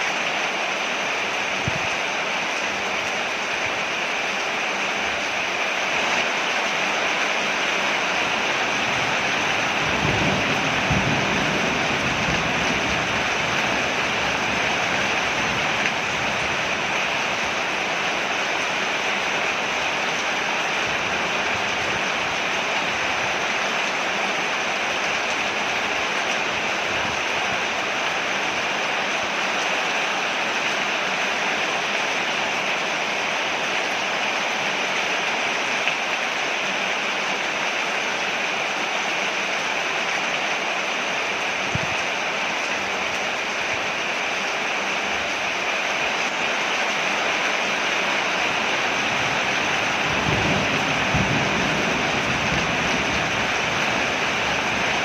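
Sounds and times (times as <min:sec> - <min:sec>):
rain falling on a porch: 0:00.0 - 0:55.0.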